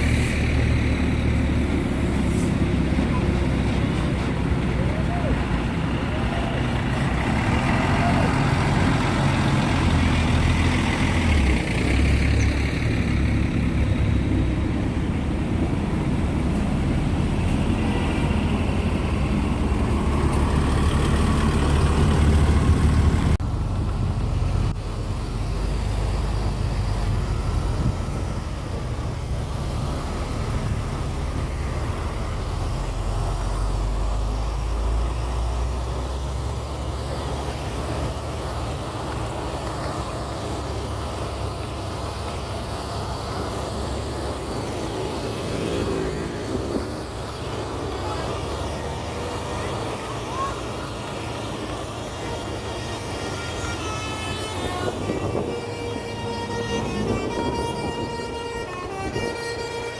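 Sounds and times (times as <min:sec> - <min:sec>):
diesel bus engine rumbling: 0:00.0 - 0:59.9
road traffic: 0:00.0 - 0:59.9.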